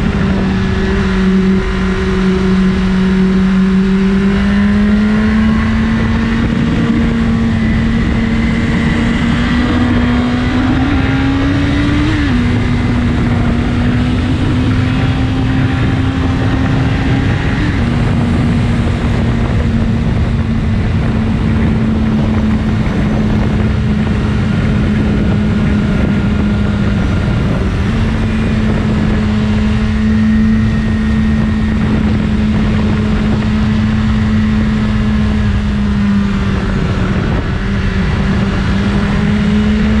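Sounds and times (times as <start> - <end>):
motorcycle engine running: 0.0 - 40.0
wind noise: 0.0 - 40.0.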